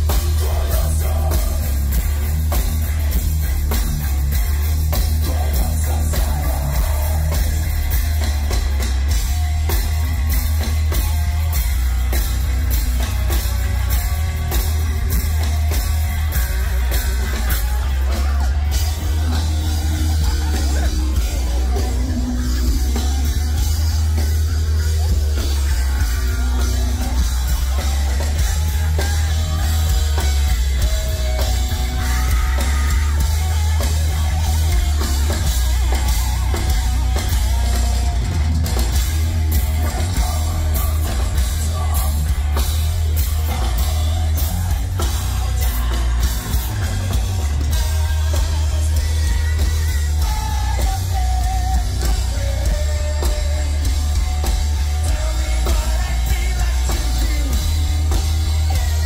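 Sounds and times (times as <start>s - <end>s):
person singing: 0.0s - 9.9s, 12.9s - 59.0s
distorted electric guitars: 0.0s - 59.0s
heavy bass: 0.0s - 59.0s
pounding drum kit: 0.0s - 59.0s.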